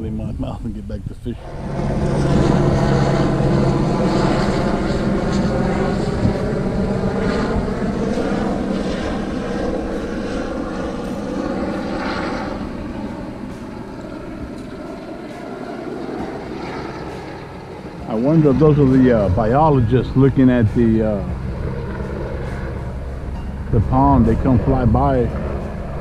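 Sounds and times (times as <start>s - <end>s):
propeller aircraft engine drone: 0.0s - 26.0s.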